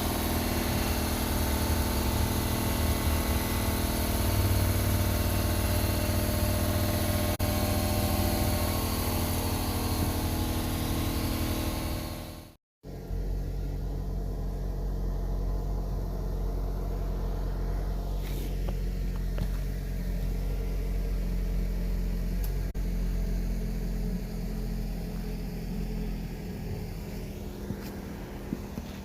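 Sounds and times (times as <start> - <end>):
engine running with low rumble: 0.0 - 29.0.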